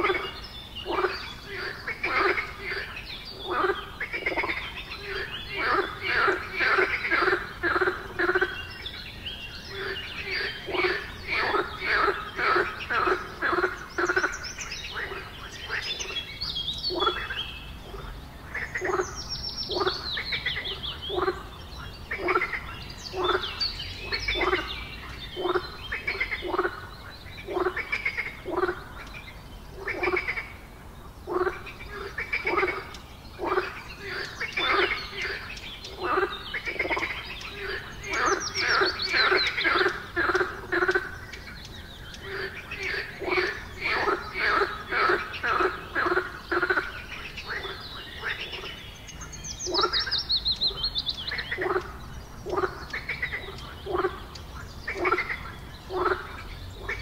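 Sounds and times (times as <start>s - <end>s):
frogs croaking in a chorus: 0.0s - 57.0s.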